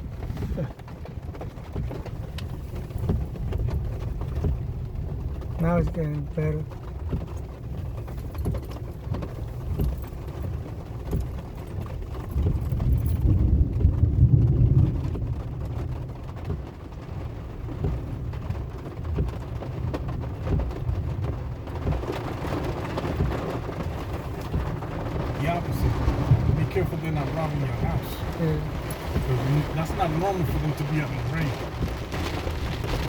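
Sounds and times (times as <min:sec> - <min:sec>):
raindrops ticking on car: 0:00.0 - 0:33.0
road and engine rumble: 0:00.0 - 0:33.0.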